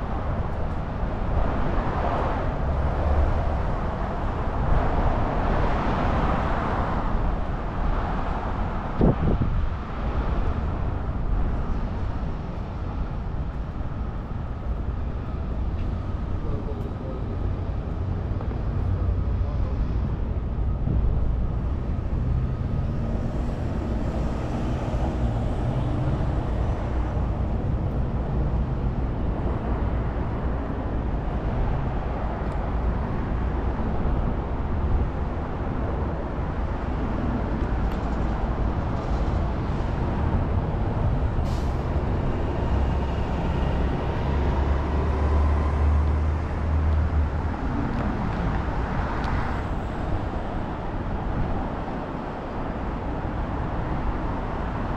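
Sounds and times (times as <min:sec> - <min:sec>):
street traffic: 0:00.0 - 0:54.9.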